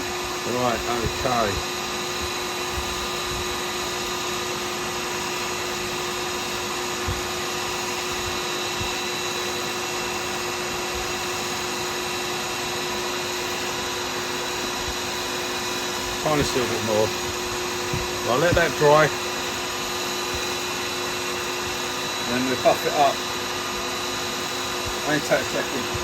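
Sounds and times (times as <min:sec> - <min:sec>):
wood lathe motor humming: 0:00.0 - 0:26.0.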